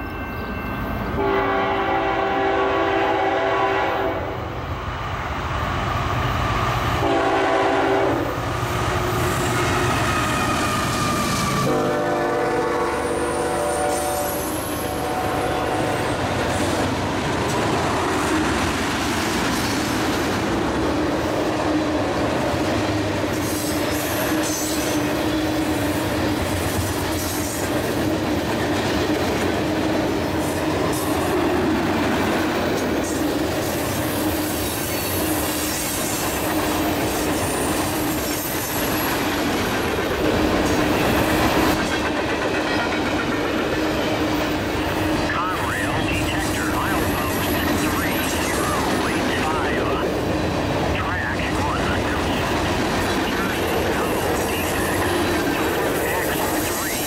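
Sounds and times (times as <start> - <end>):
train wheels rumbling over rails: 0.8 - 57.0.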